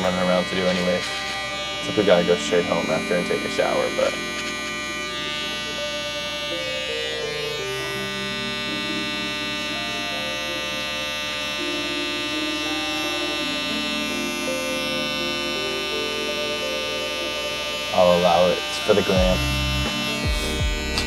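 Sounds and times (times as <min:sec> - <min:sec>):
slow background music: 0:00.0 - 0:21.0
steady electric buzz: 0:00.0 - 0:21.0.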